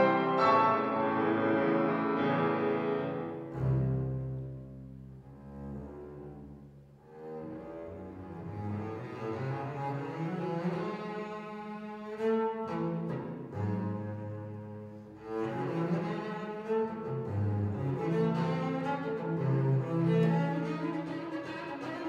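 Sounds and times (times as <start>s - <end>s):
bowed double bass: 0.0s - 22.0s.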